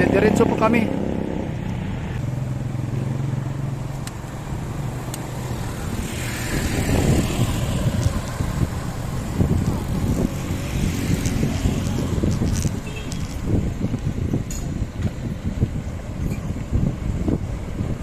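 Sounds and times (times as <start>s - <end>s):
road and wind noise: 0.0s - 18.0s
vehicle engine humming: 0.0s - 18.0s.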